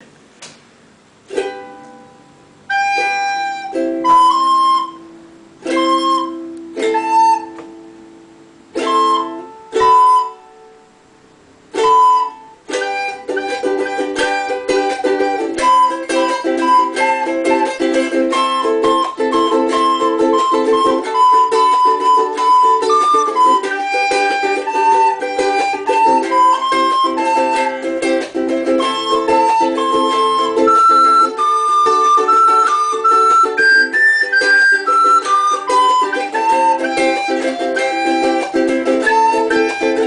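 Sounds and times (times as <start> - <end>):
plucked string instrument strumming: 1.3 - 40.0.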